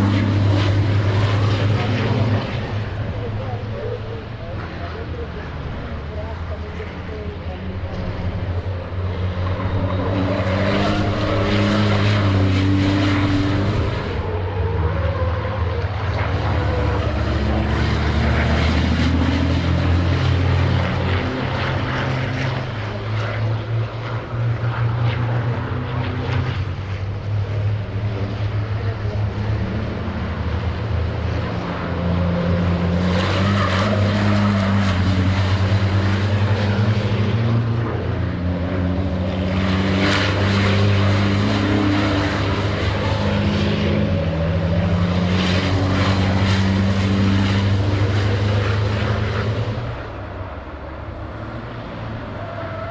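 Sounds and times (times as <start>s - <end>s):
heavy diesel truck engines droning: 0.0s - 52.9s.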